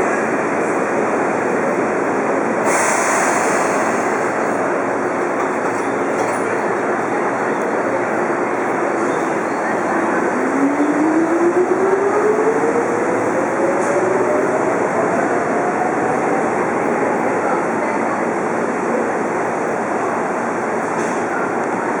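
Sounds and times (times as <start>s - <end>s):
train rolling noise: 0.0s - 22.0s.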